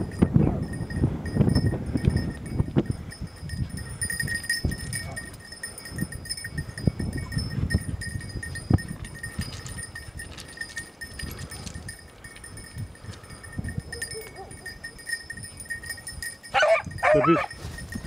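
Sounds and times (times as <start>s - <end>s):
small bell jingling: 0.0s - 18.0s
footsteps on stony ground: 1.5s - 16.2s, 17.0s - 18.0s.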